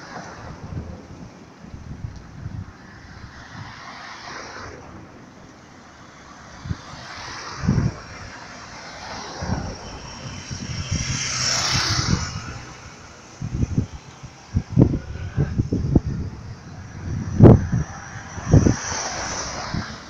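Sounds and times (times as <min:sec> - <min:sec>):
wind thumps on microphone: 0:00.0 - 0:04.0, 0:06.4 - 0:20.0
car passing close by: 0:02.0 - 0:20.0.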